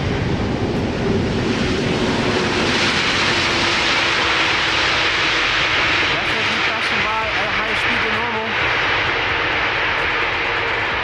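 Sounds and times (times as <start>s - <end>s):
jet engine rush: 0.0s - 11.0s.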